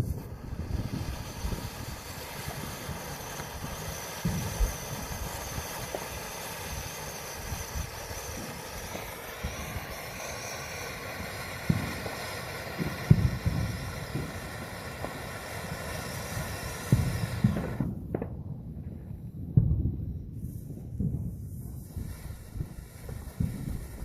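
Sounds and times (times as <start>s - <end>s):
outdoor hiss: 0.0s - 17.9s, 20.3s - 24.0s
wind buffeting microphone: 0.0s - 24.0s.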